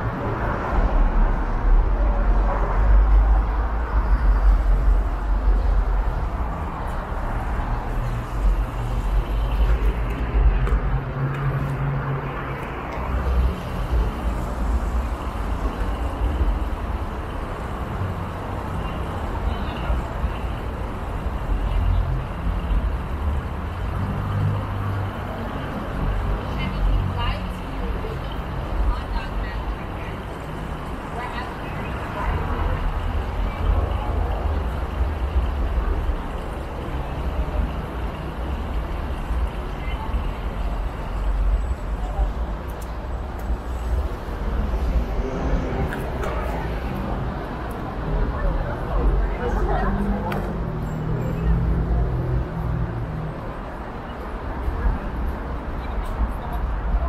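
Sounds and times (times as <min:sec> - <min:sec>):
passing vehicles: 0:00.0 - 0:57.0.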